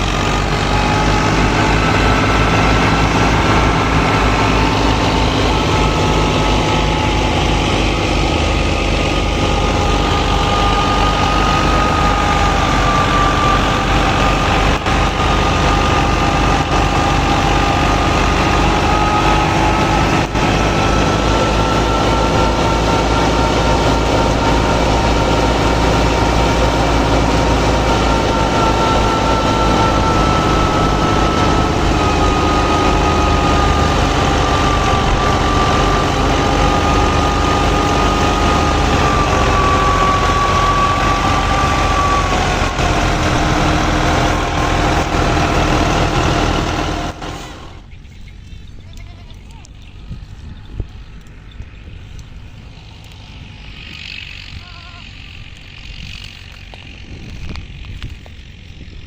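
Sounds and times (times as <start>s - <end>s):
high tones drifting in pitch: 0.0s - 49.0s
engine running steadily: 0.0s - 59.0s.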